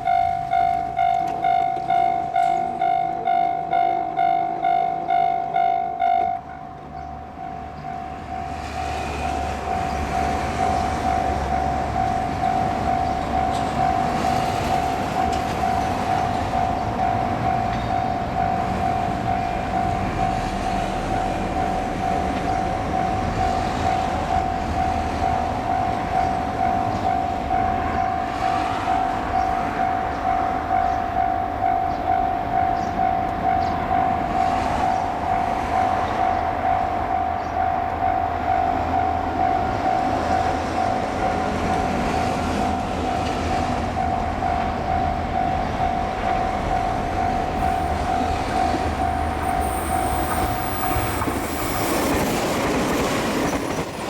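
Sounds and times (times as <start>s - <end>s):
level-crossing alarm bell ringing: 0.0s - 6.5s, 7.4s - 54.0s
low train rumble: 0.0s - 54.0s.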